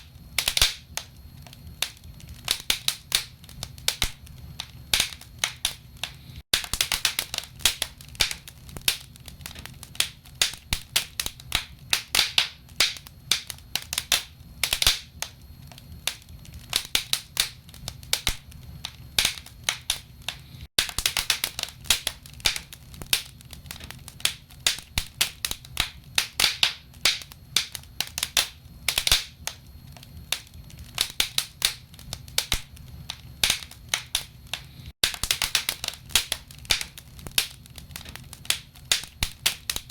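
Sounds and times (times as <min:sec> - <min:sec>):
firewood crackling and popping: 0:00.0 - 0:39.9
low rumble of fire: 0:00.0 - 0:39.9.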